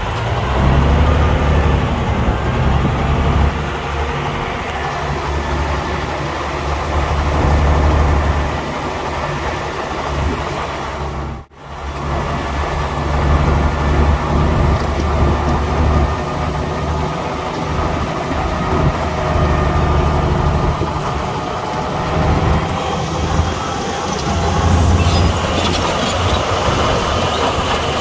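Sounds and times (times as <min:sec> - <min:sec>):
bulldozer diesel engine rumbling: 0:00.0 - 0:28.0.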